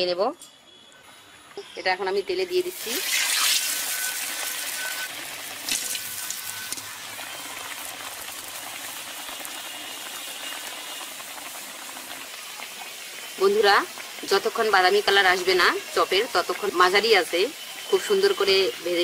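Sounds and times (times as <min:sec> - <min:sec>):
fish deep-frying in oil: 0:02.3 - 0:19.0.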